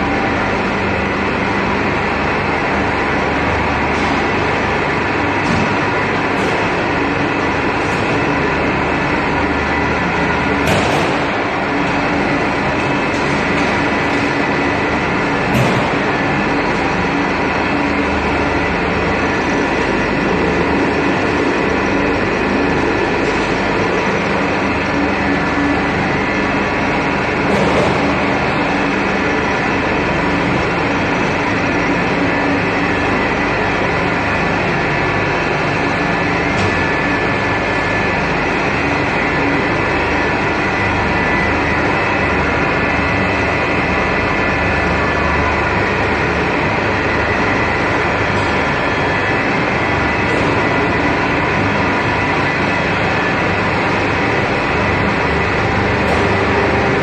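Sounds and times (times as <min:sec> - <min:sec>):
factory machinery running: 0:00.0 - 0:57.0
motor hum and whine: 0:00.0 - 0:57.0.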